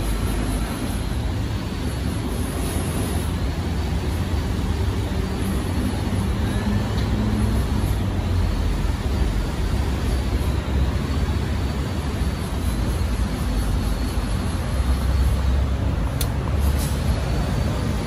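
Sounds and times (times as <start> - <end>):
urban street rumble: 0.0 - 18.0.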